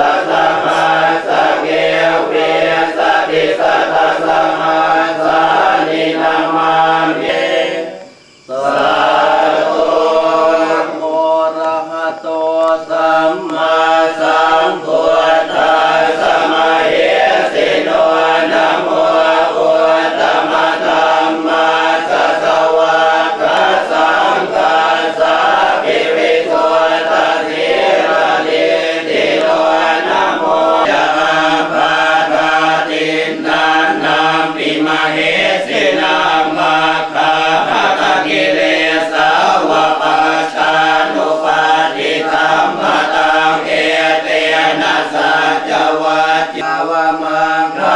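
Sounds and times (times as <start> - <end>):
monks chanting in unison: 0.0 - 47.9.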